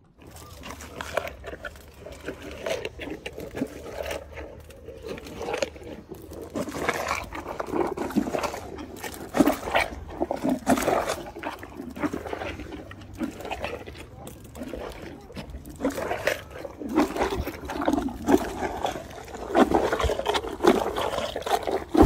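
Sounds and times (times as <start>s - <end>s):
hippopotamus chomping watermelon: 0.0s - 22.0s.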